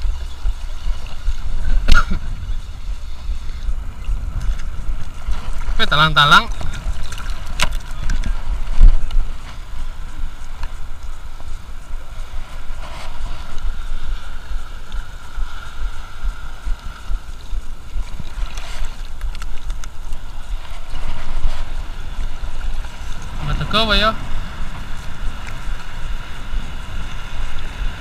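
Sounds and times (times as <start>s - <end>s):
water lapping: 0.0s - 28.0s
wind buffeting microphone: 0.0s - 28.0s.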